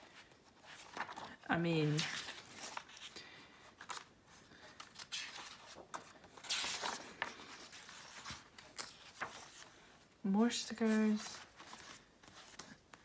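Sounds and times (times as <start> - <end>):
book pages turning: 0.0 - 10.0, 10.7 - 13.0.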